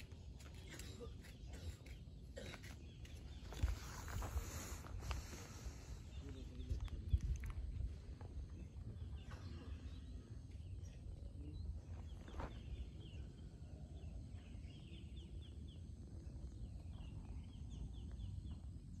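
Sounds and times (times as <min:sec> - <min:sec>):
small birds chirping: 0:00.0 - 0:19.0
faint low rumble: 0:03.3 - 0:19.0.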